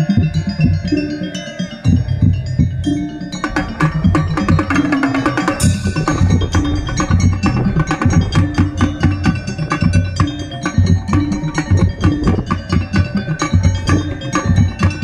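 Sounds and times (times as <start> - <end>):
pitched bell notes: 0.0 - 15.0
bass drum: 1.9 - 2.9, 3.6 - 15.0
rapid drum strokes: 1.9 - 15.0.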